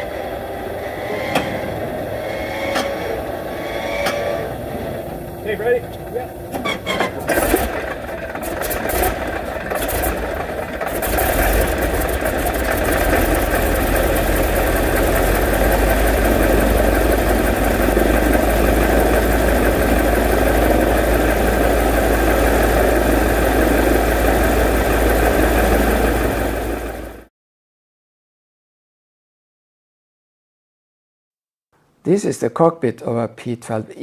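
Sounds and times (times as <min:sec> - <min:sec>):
radial engine starting and running: 0:00.0 - 0:27.3.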